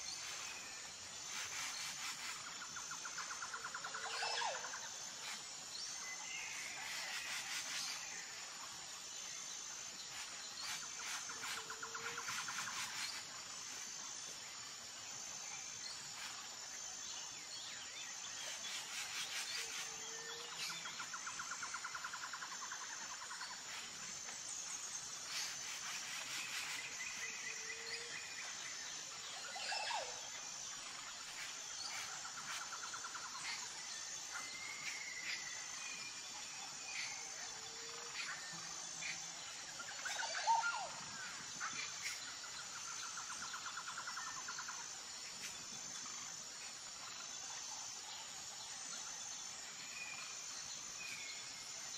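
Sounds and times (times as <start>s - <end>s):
bird calls and trills: 0.0s - 51.9s
insects chirping: 0.0s - 51.9s.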